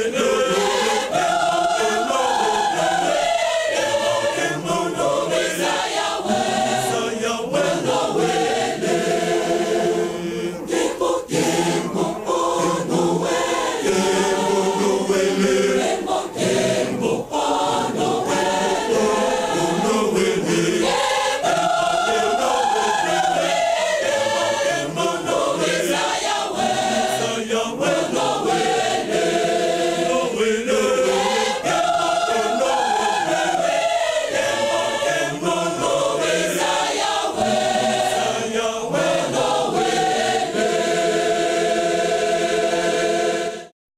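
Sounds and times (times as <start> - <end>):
choir singing a hymn: 0.0 - 43.7.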